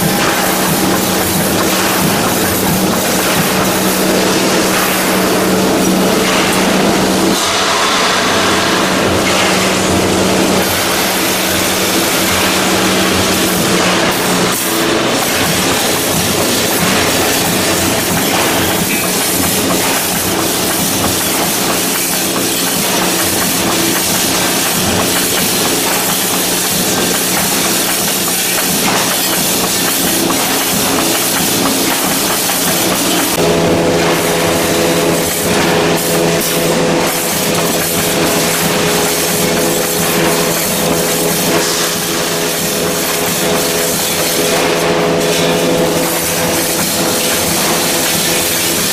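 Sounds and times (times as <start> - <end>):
machine hum: 0.0 - 48.9
welding machine clatter and hiss: 0.0 - 48.9.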